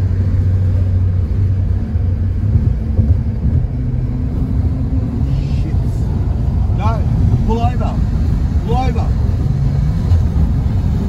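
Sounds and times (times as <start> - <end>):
faint engine hum: 0.0 - 11.0
motor vehicle rumbling: 0.0 - 11.0.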